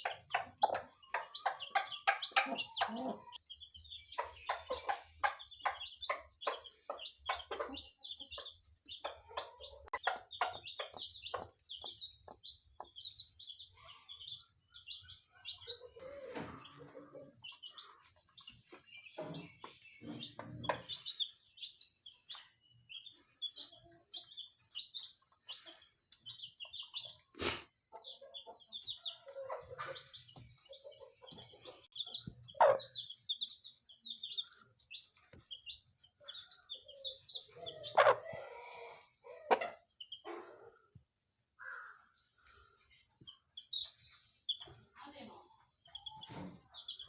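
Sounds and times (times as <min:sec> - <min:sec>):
chickens clucking: 0:00.0 - 0:47.0
chicks cheeping: 0:00.0 - 0:47.0.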